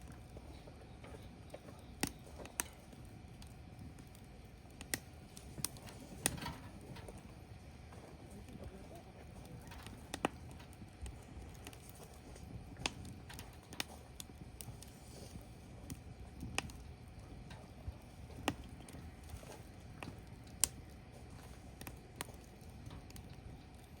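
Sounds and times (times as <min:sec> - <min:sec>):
firewood crackling and popping: 0:00.0 - 0:24.0
low rumble of fire: 0:00.0 - 0:24.0.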